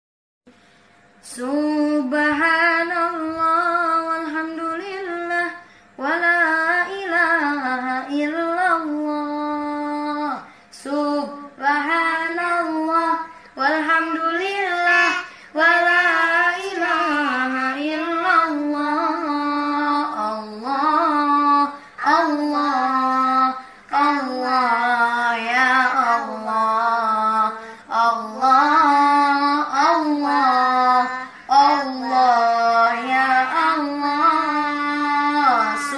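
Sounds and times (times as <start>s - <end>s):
child chanting melodically: 1.2s - 35.9s.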